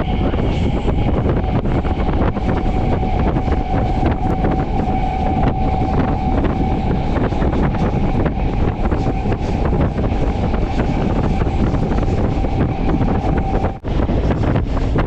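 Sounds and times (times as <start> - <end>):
steady whine: 0.0 - 15.0
train rumbling along track: 0.0 - 15.0
wind on microphone: 0.0 - 15.0.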